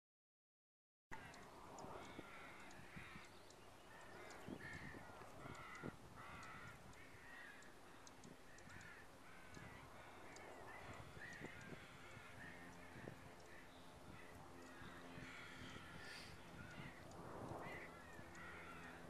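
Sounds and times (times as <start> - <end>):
crows cawing: 1.2 - 19.0.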